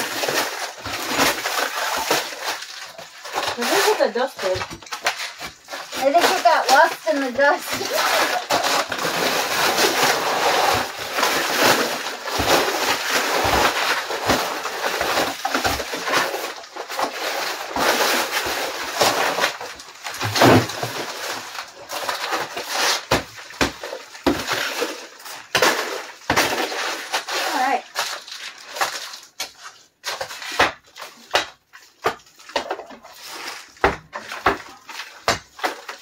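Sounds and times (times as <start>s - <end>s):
plaster crunching and scraping: 0.0s - 36.0s.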